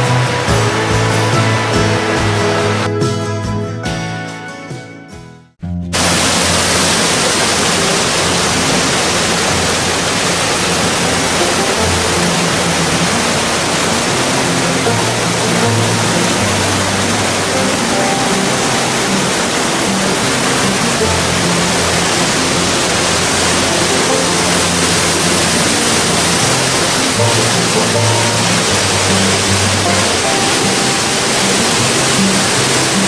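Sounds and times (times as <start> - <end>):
creek rushing over rocks: 0.0 - 2.9, 5.9 - 33.0
soft background music: 6.0 - 33.0.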